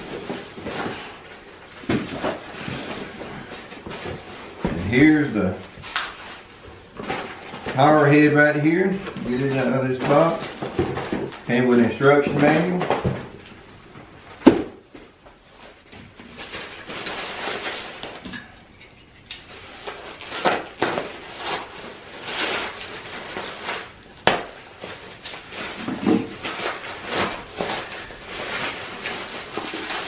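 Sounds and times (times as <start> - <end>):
bubble wrap crinkling and rustling: 0.0 - 30.0.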